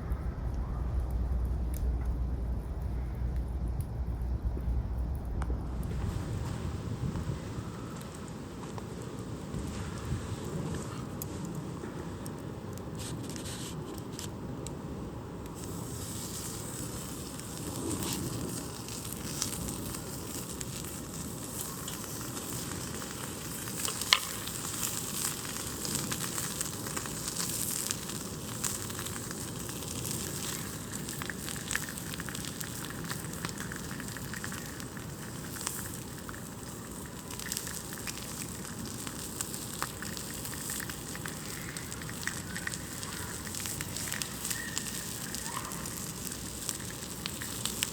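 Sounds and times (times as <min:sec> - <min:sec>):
campfire hissing: 0:00.0 - 0:47.9
fire crackling and popping: 0:00.0 - 0:47.9.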